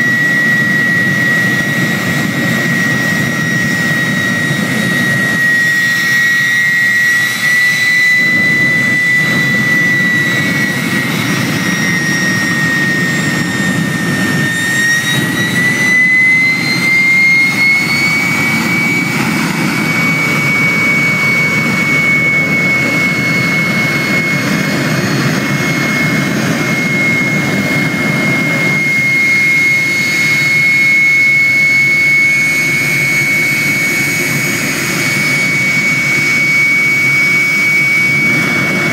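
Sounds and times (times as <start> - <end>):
jet turbine whine and roar: 0.0 - 38.9.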